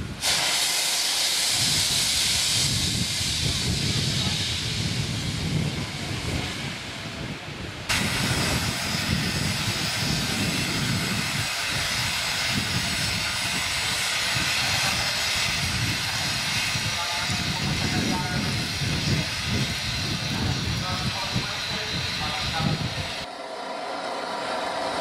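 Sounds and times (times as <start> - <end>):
steam hissing from locomotive: 0.0 - 25.0.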